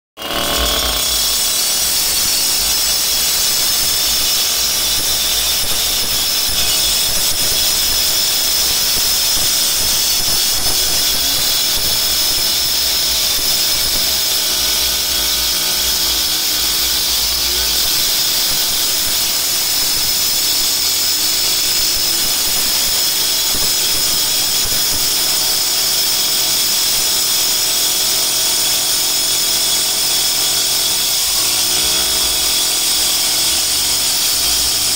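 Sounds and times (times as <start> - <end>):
disc grinding through concrete: 0.2 - 34.9
two-stroke engine at high revs: 5.2 - 34.9.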